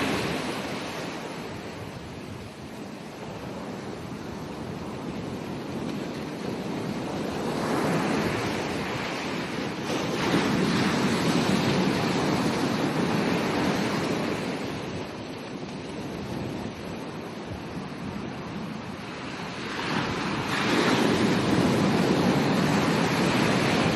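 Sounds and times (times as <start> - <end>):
ocean waves breaking: 0.0 - 23.9.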